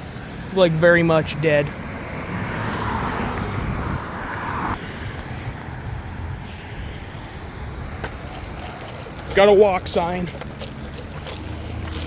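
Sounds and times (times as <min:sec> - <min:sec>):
low traffic rumble: 0:00.0 - 0:12.0
vehicle passing: 0:00.0 - 0:12.0.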